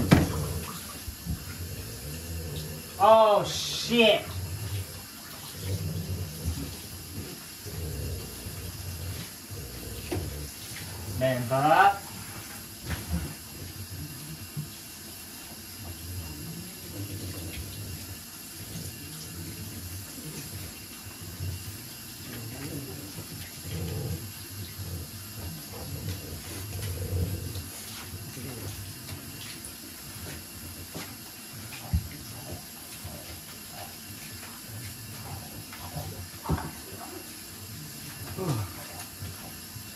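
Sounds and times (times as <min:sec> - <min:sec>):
water running from bathtub tap: 0:00.0 - 0:39.9.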